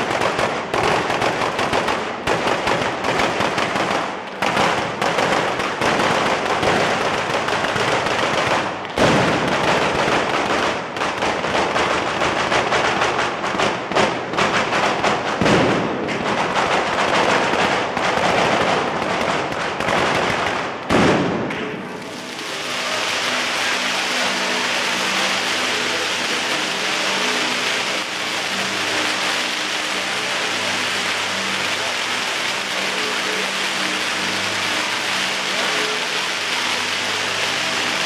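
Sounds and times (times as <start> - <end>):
firecrackers crackling: 0.0 - 38.0
heavy firework bangs: 0.0 - 38.0.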